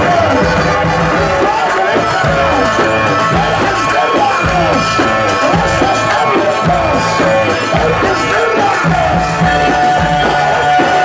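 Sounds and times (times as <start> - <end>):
bending melody: 0.0 - 11.0
steady drum beat: 0.0 - 11.0.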